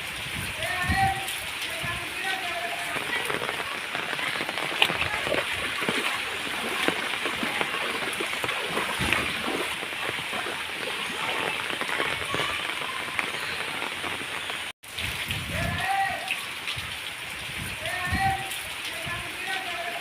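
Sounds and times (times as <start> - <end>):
rain pouring onto floodwater: 0.0 - 20.0.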